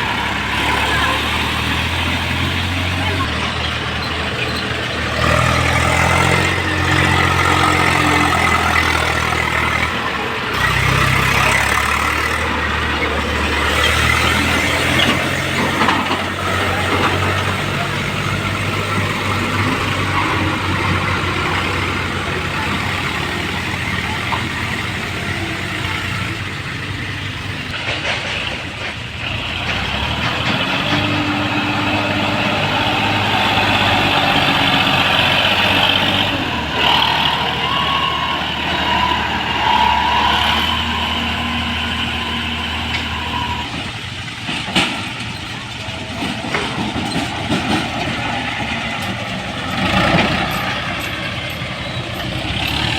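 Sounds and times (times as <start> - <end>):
tractor engine revving: 0.0 - 52.9.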